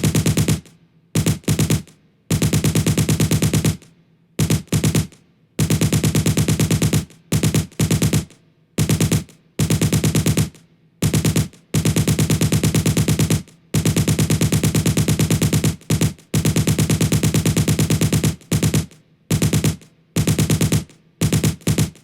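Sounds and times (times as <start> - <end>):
machine gun firing bursts: 0.0 - 22.0.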